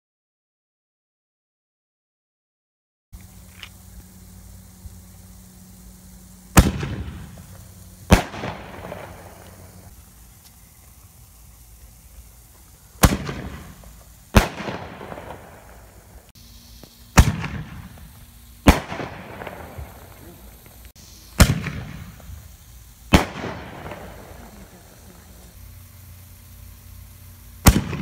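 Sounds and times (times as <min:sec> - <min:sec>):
firework launches and bursts: 0:03.2 - 0:28.0.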